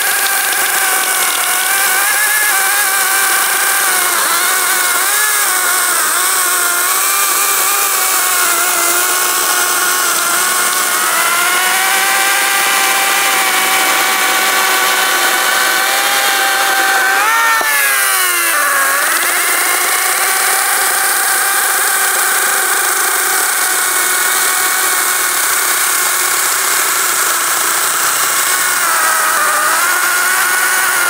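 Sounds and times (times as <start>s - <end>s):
electric chainsaw cutting log: 0.0s - 31.0s.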